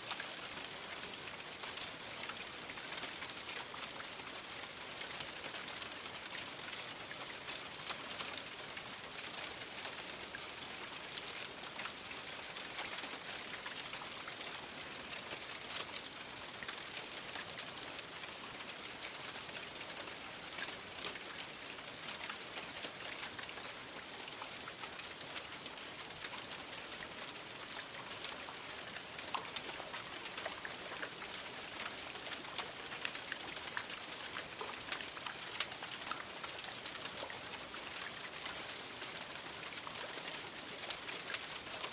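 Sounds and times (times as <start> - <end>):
raindrops ticking on a surface: 0.0 - 41.9.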